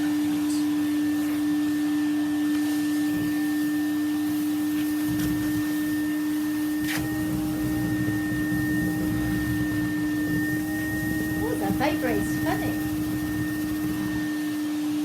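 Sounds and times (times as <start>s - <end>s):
vacuum cleaner humming: 0.0s - 15.0s.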